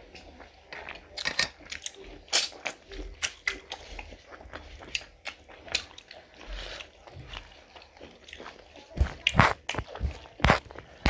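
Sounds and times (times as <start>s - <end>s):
people chewing with mouth clicks: 0.0s - 11.0s.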